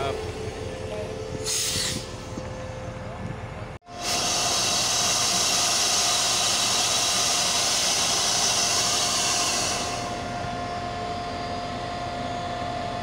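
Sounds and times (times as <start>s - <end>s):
locomotive engine running: 0.0s - 13.0s
thin steady whine: 0.0s - 13.0s.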